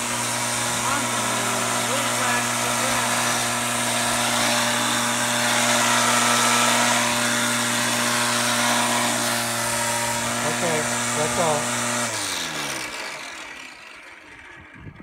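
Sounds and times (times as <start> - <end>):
string trimmer motor whining: 0.0 - 15.0.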